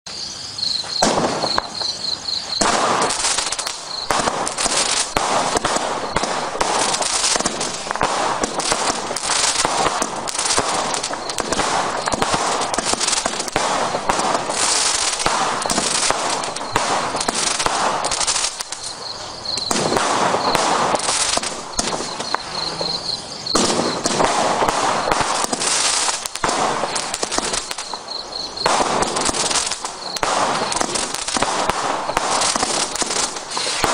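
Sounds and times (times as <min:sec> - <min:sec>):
firework barrage launches and bangs: 0:00.8 - 0:33.9.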